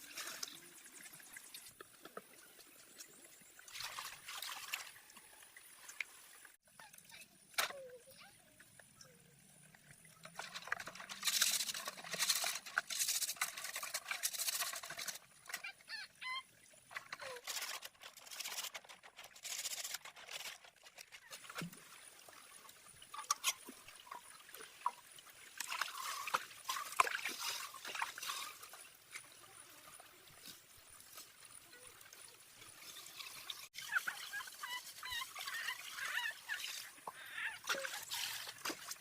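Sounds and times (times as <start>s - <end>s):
water pouring and splashing: 0.0s - 8.9s, 9.6s - 39.0s.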